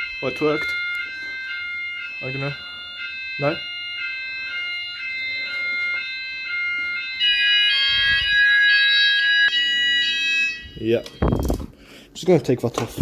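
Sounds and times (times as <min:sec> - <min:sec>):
fire alarm stepping tone: 0:00.0 - 0:12.0.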